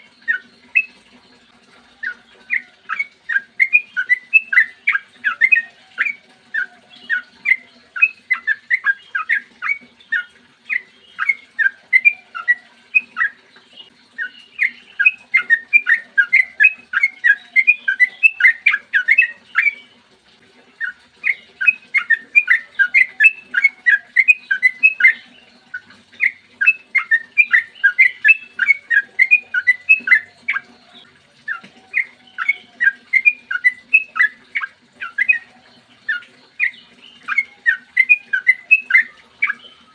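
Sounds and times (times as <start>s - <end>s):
bird singing whistled notes: 0.0s - 1.0s, 2.0s - 13.4s, 14.2s - 19.9s, 20.8s - 39.9s.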